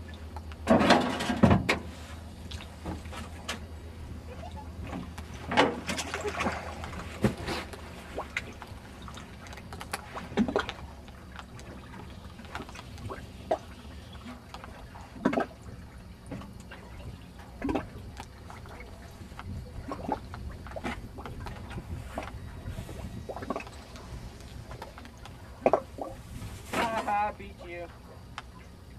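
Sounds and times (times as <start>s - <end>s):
low steady hum: 0.0s - 28.9s
waves lapping against boat hull: 0.0s - 28.9s.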